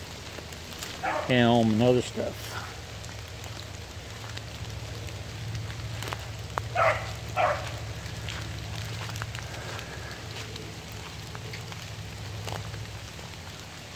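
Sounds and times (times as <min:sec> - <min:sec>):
small ticks and drips: 0:00.0 - 0:13.9
wet leaves rustling: 0:00.0 - 0:13.9.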